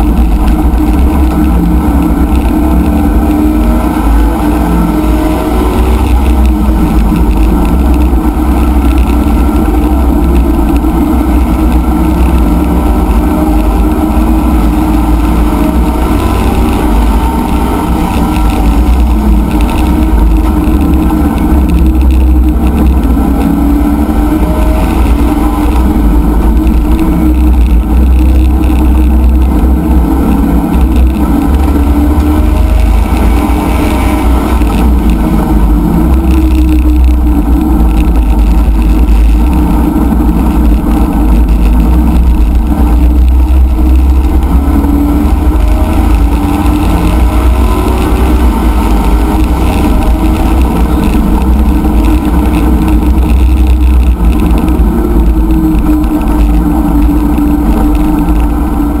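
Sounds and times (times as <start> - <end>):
race car engine running hard: 0.0 - 59.0
road and wind noise: 0.0 - 59.0.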